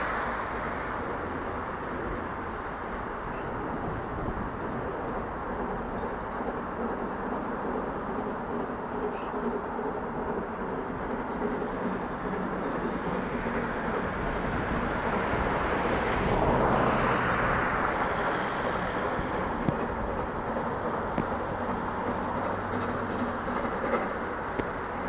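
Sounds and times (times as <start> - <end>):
steam train passing: 0.0 - 25.0.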